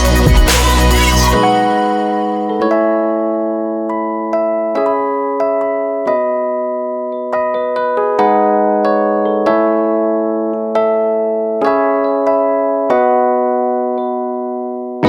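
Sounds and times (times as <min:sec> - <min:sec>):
electric piano chords: 0:00.0 - 0:15.0.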